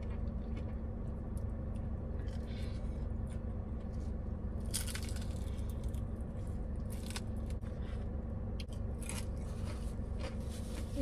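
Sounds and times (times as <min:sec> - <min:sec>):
steady low hum: 0:00.0 - 0:11.0
crunching fried chicken: 0:01.8 - 0:10.8.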